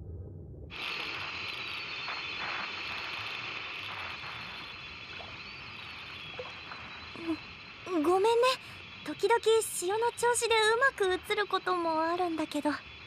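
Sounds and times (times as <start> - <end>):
television static hissing: 0.7 - 13.0.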